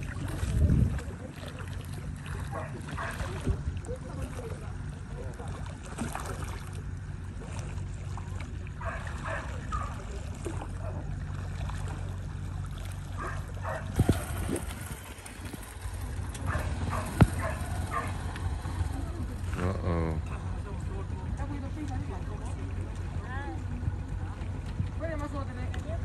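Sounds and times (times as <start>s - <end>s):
low hum of ship engines: 0.0s - 26.0s.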